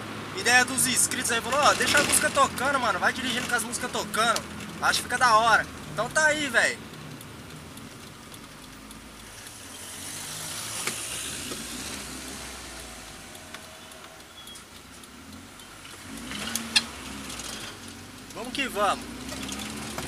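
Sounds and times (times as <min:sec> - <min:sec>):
road and tyre noise: 0:00.0 - 0:20.0
car engine running: 0:00.5 - 0:20.0.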